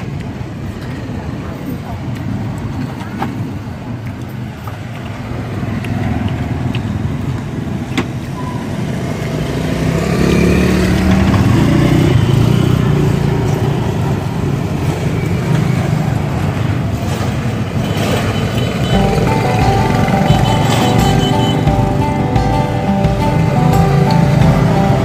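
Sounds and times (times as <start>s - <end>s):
cars passing: 0.0s - 25.0s
motorbikes passing: 0.0s - 25.0s.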